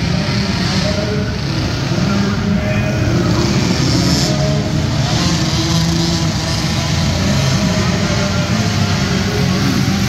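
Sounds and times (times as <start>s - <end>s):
small quad engines revving: 0.0s - 10.0s.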